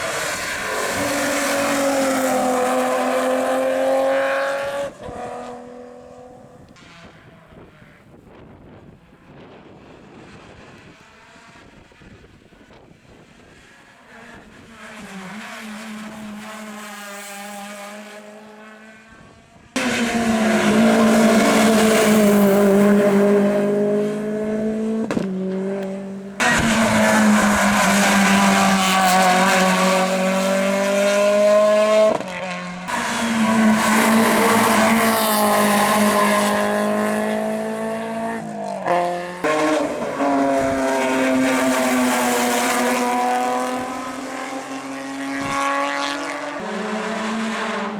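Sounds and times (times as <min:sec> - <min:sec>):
rally car engines revving: 0:00.0 - 0:08.1, 0:09.6 - 0:47.9.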